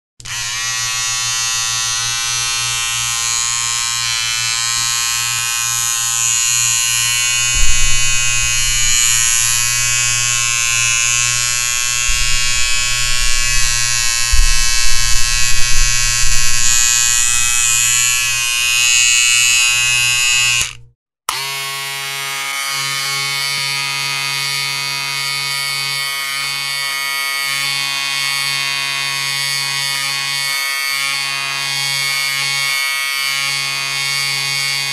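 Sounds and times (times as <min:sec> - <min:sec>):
electric hair clipper buzzing: 0:00.2 - 0:34.9.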